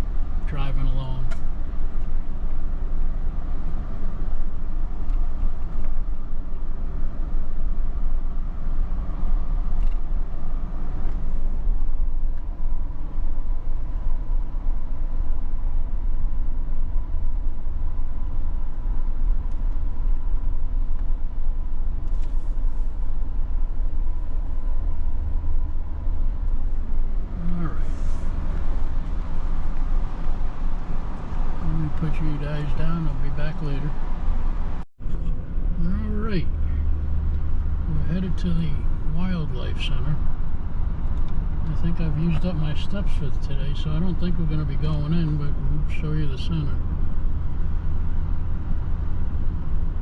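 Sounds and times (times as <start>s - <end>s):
car engine and tyres rumbling: 0.0s - 50.0s.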